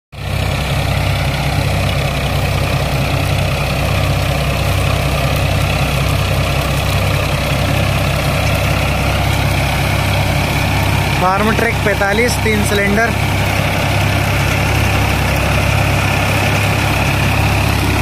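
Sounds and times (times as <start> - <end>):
reaper machinery running: 0.2 - 18.0
tractor diesel engine running: 0.2 - 18.0.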